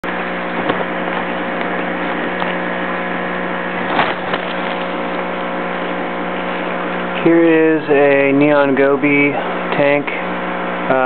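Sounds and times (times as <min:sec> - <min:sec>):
machinery hum with faint whine: 0:00.0 - 0:11.0.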